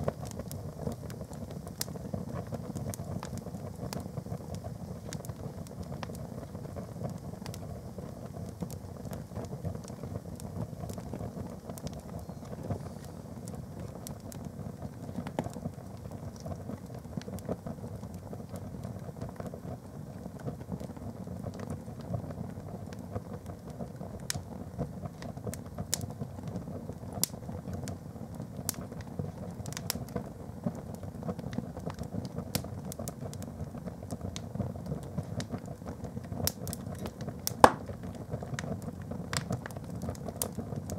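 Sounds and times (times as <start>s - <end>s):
fire crackling and popping: 0.0s - 40.9s
low rush of fire: 0.0s - 40.9s.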